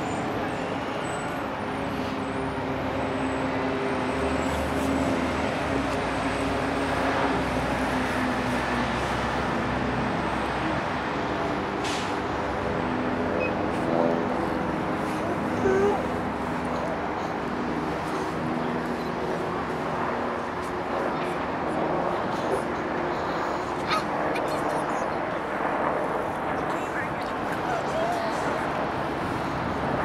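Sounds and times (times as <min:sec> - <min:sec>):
traffic noise: 0:00.0 - 0:30.0.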